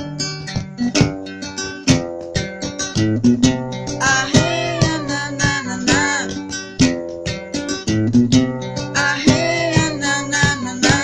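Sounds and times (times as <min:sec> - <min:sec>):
acoustic guitar strummed: 0:00.0 - 0:11.0.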